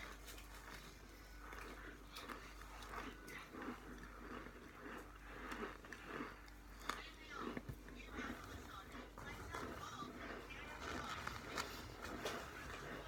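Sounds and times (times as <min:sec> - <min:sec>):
person crunching cornstarch: 0:00.0 - 0:13.0.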